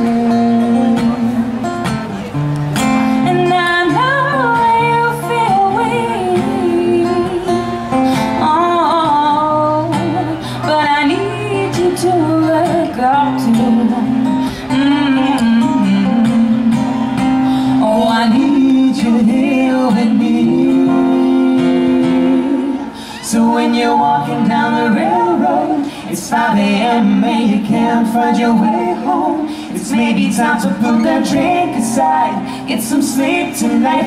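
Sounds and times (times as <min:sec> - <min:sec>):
acoustic guitar strumming: 0:00.0 - 0:34.0
woman singing: 0:03.2 - 0:34.0.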